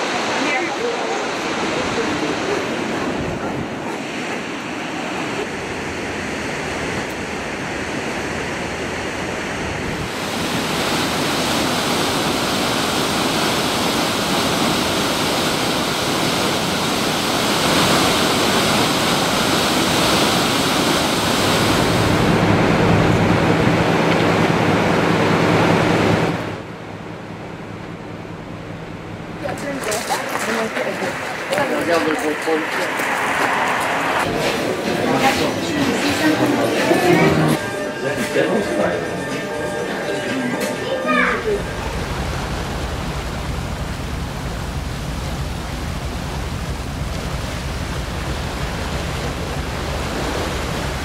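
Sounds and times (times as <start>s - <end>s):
waterfall roaring: 0.0s - 27.0s, 28.7s - 51.0s.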